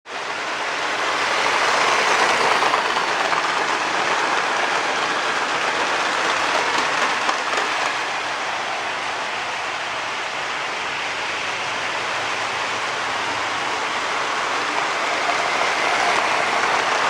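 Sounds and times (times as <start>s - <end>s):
toy train motors whirring: 0.1s - 17.0s.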